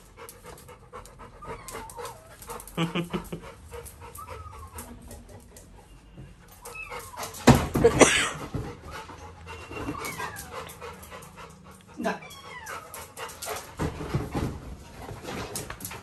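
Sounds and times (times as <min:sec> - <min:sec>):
dog panting: 0:00.0 - 0:07.6, 0:08.4 - 0:16.0.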